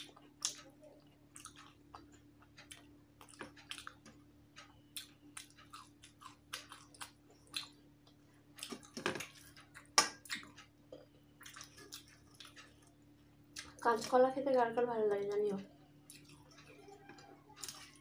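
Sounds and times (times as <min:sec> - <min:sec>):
chewing with wet mouth clicks: 0:00.0 - 0:14.1, 0:16.0 - 0:18.0.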